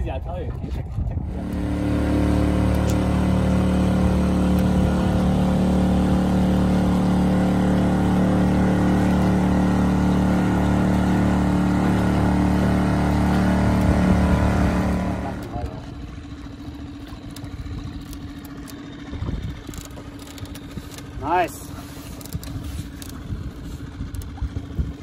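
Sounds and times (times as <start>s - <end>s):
outboard motor humming: 0.4s - 25.0s.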